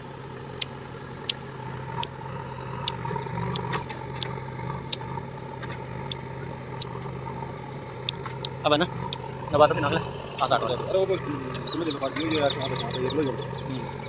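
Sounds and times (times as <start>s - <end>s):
diesel engine running at low speed: 0.0s - 14.0s
sharp ticking: 0.6s - 14.0s.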